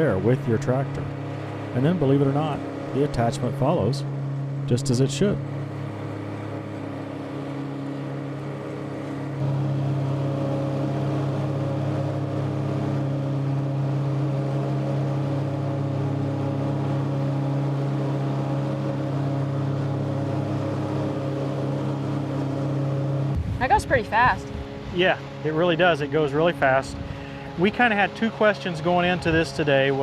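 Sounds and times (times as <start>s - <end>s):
rotary mower cutting grass: 0.0s - 30.0s
tractor engine running: 0.0s - 30.0s.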